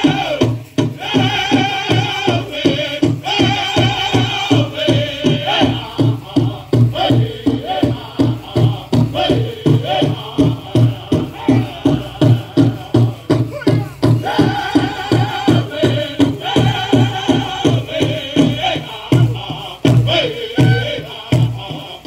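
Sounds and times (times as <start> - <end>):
voices singing sustained notes: 0.0 - 13.4, 14.2 - 22.0
large drum steady beat: 0.0 - 22.0.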